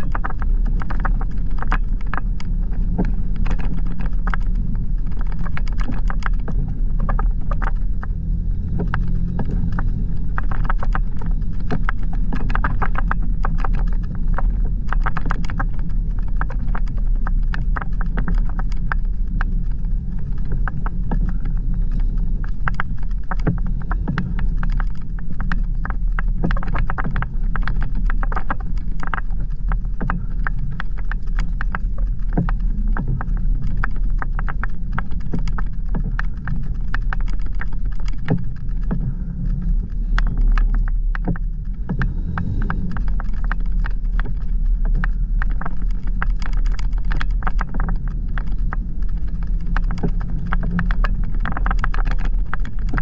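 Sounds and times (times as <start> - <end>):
engine low rumble: 0.0 - 53.0.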